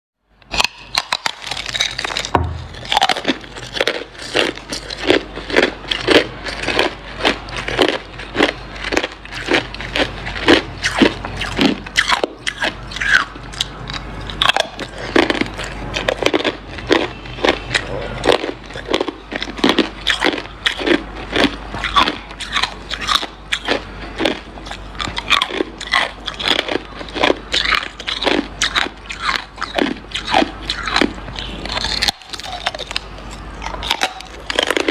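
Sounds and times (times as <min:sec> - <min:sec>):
person chewing hard ice: 0:00.4 - 0:34.9.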